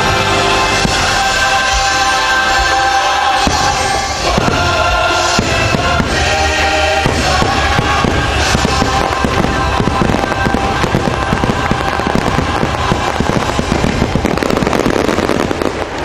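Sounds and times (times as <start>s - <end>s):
fireworks cracks and booms: 0.0s - 16.0s
music: 0.0s - 16.0s.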